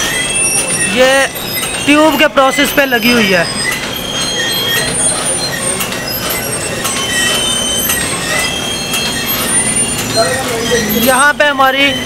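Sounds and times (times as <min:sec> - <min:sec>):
high squeaks: 0:00.0 - 0:12.0
machine mechanical rattle: 0:00.0 - 0:12.0.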